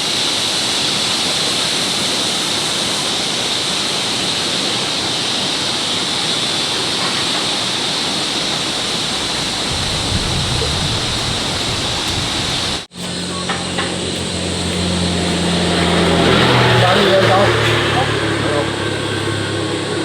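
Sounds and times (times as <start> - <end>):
rushing noise with hiss: 0.0 - 20.0.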